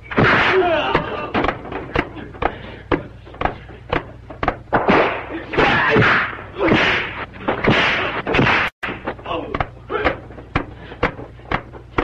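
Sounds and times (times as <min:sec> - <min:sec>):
punch and kick impacts: 0:00.1 - 0:02.1, 0:02.9 - 0:12.0.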